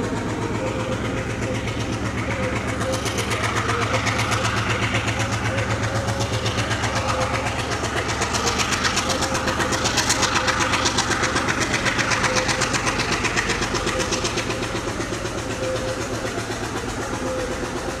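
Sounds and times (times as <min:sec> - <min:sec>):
diesel locomotive engine pulsing: 0:00.0 - 0:18.0.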